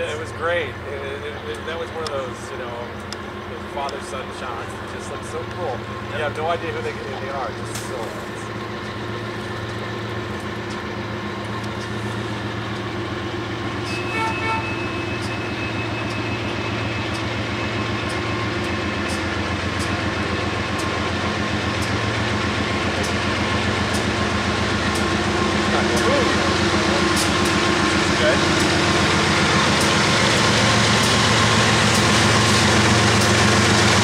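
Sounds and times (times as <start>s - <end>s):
diesel locomotive engine drone: 0.0s - 34.0s.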